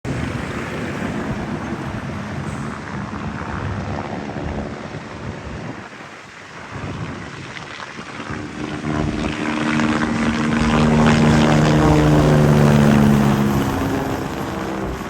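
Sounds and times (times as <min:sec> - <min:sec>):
helicopter engine and rotor: 0:00.0 - 0:15.0
wind on microphone: 0:00.0 - 0:15.0.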